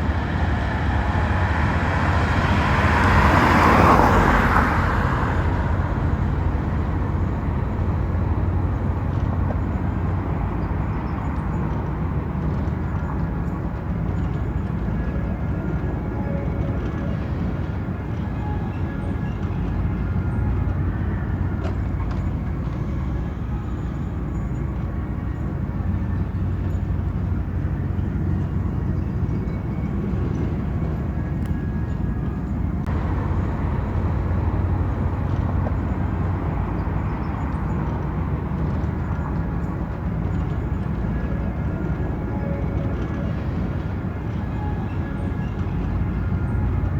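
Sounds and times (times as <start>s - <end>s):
diesel train engine droning: 0.0s - 46.9s.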